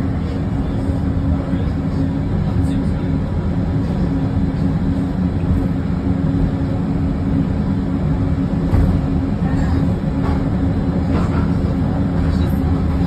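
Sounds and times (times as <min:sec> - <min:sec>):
train car rumble and hum: 0:00.0 - 0:13.0.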